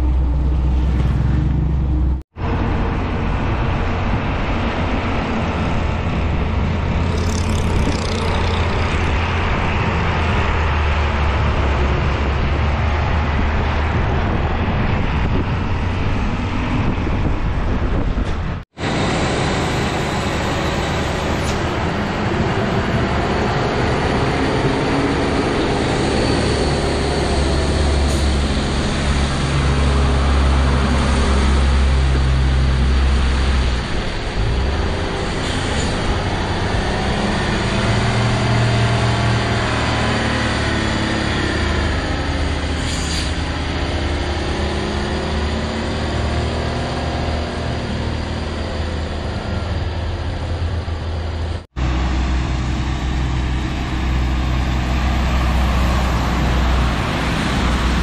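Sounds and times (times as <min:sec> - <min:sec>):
diesel trucks passing: 0:00.0 - 0:58.0
tyre and road noise: 0:00.0 - 0:58.0.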